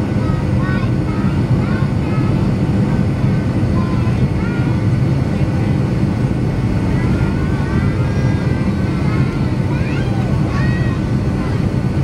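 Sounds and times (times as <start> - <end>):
faint passenger voices: 0.0 - 12.0
jet engines rumbling in cabin: 0.0 - 12.0.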